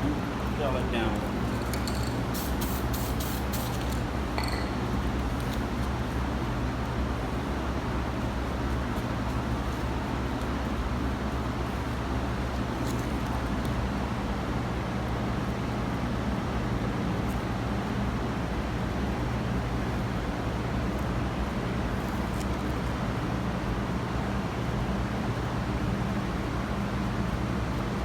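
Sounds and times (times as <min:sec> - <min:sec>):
low droning machinery hum: 0:00.0 - 0:28.0.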